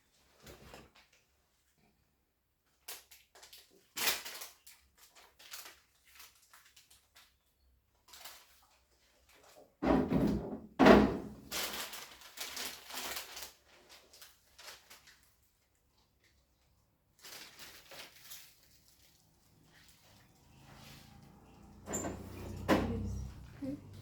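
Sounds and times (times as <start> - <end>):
rustling and scraping of wrapping: 2.6 - 9.8, 11.3 - 24.0.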